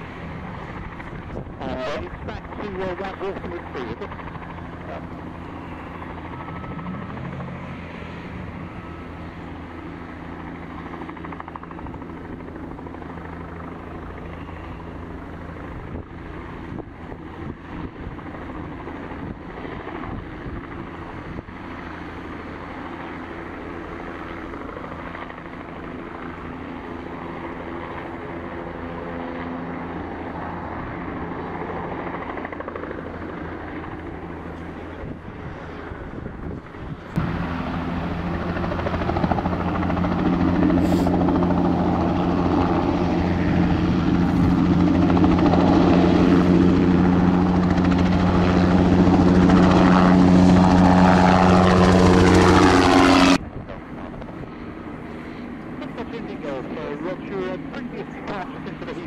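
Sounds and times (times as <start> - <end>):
helicopter rotor hum: 0.0 - 59.0.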